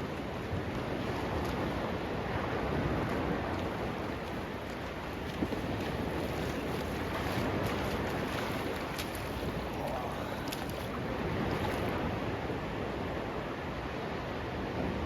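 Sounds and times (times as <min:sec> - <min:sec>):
sea surf: 0:00.0 - 0:15.0
wind: 0:00.0 - 0:15.0.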